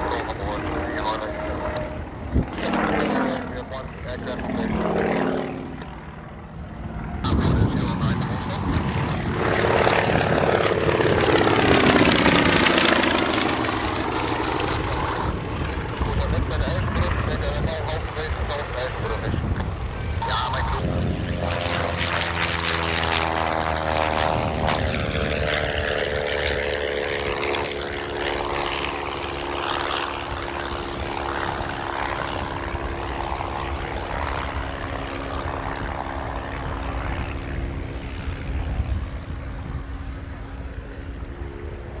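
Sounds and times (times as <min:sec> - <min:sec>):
propeller plane engine droning: 0:00.0 - 0:42.0.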